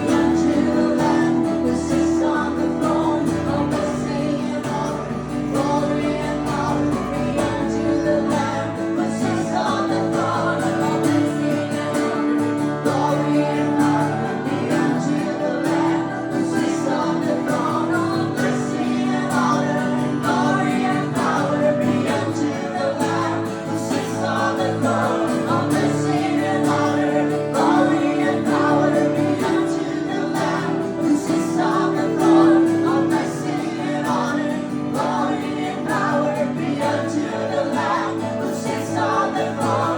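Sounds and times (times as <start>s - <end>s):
acoustic guitar: 0.0s - 39.9s
voices singing slow melody: 0.0s - 39.9s.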